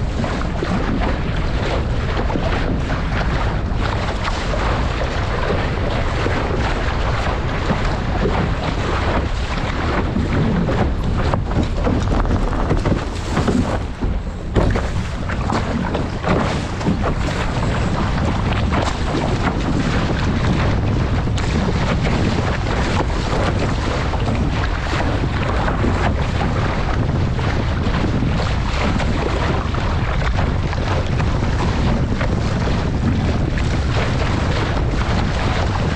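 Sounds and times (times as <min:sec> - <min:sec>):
water rushing along hull: 0:00.0 - 0:35.9
wind buffeting microphone: 0:00.0 - 0:35.9.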